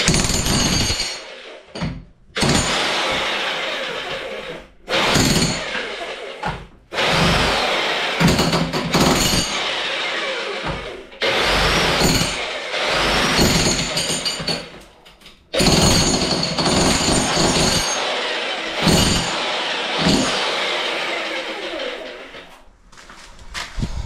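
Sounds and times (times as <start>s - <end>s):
jackhammer hammering into brick: 0.0s - 22.4s.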